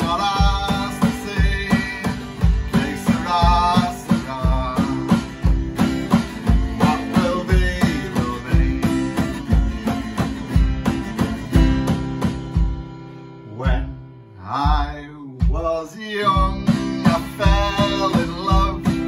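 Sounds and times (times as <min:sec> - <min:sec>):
electronic drum kit: 0:00.0 - 0:13.1, 0:14.6 - 0:19.0
acoustic guitar strumming: 0:00.0 - 0:19.0
low kick drum thump: 0:00.1 - 0:06.8, 0:08.5 - 0:13.0, 0:14.7 - 0:19.0.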